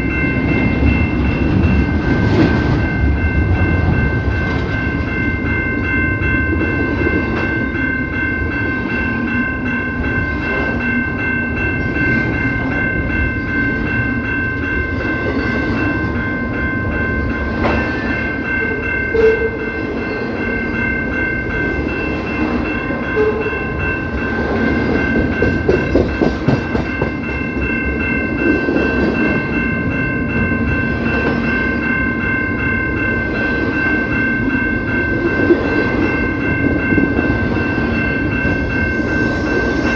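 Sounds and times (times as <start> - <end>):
train cars rumbling and rattling: 0.0 - 39.9.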